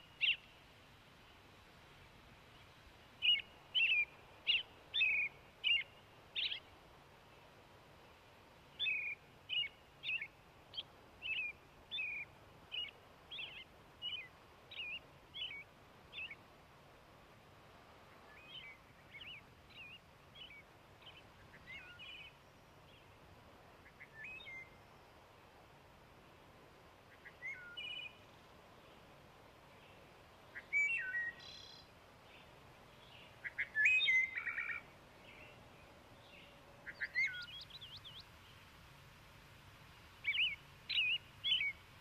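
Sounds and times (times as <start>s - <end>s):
faint steady hiss: 0.0s - 42.0s
songbirds chirping: 0.0s - 42.0s.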